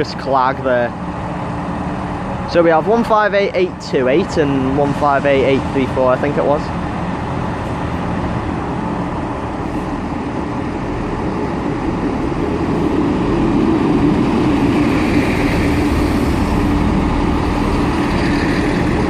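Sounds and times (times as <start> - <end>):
train diesel engines droning: 0.0 - 19.0.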